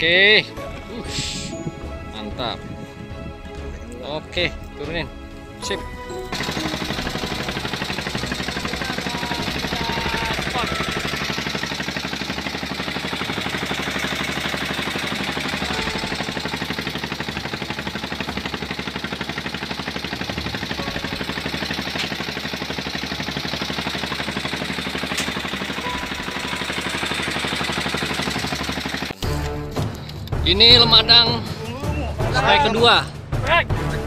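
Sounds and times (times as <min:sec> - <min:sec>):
boat engine running: 0:00.0 - 0:31.5.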